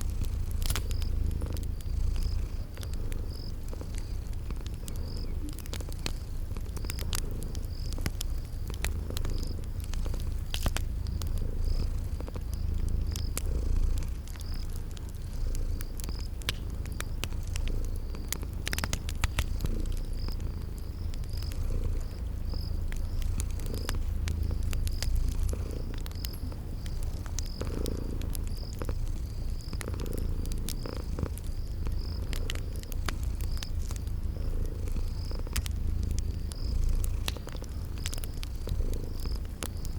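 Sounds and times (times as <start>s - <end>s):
cat purring: 0.0s - 39.9s
crickets chirping: 0.0s - 39.9s
wood fire crackling and popping: 0.0s - 39.9s.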